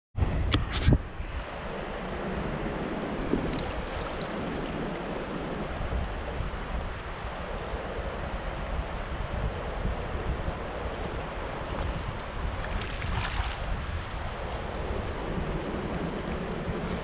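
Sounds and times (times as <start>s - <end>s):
wind buffeting microphone: 0.2s - 17.0s.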